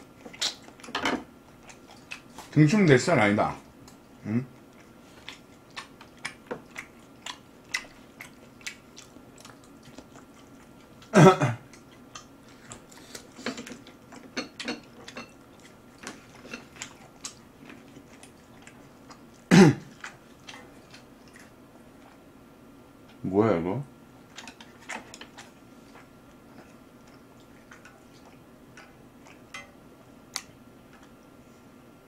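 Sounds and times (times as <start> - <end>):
chewing with wet mouth clicks: 0.0 - 2.6, 3.6 - 22.3, 24.2 - 31.2.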